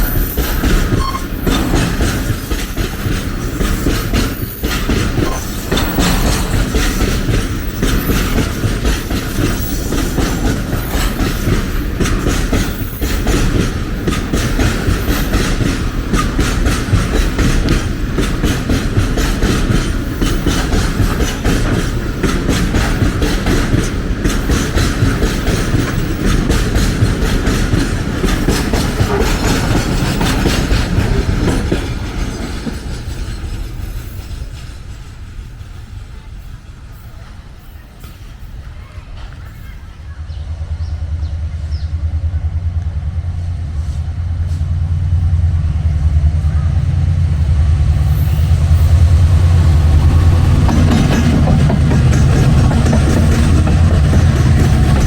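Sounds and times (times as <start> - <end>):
train low rumble: 0.0 - 55.0
train wheels clicking over rails: 0.0 - 55.0.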